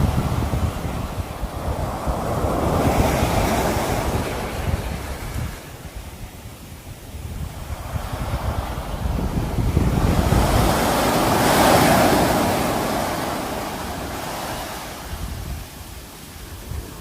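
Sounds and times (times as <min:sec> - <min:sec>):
sea waves breaking: 0:00.0 - 0:17.0
wind rumbling on microphone: 0:00.0 - 0:17.0.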